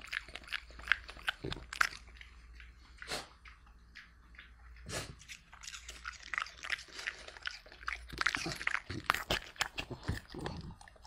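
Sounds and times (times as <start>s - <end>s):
dog crunching apple: 0.0s - 11.0s.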